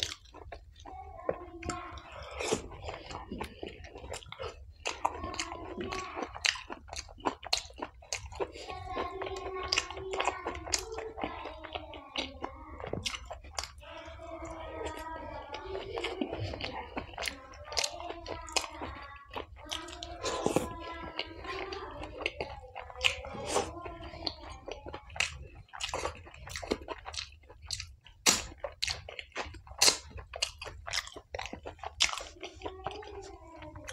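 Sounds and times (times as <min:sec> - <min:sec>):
chewing and lip-smacking: 0:00.0 - 0:33.9.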